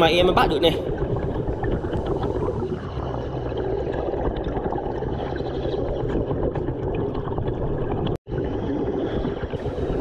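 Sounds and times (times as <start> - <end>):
faint gurgling: 0.0 - 10.0
underwater rumble: 0.0 - 10.0.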